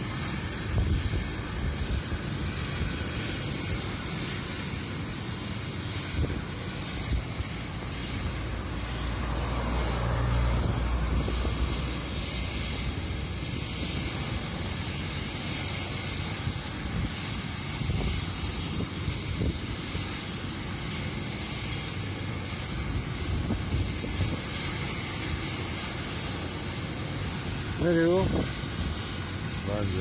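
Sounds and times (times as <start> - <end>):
helicopter rotor rumble: 0.0 - 30.0
helicopter turbine whine: 0.0 - 30.0.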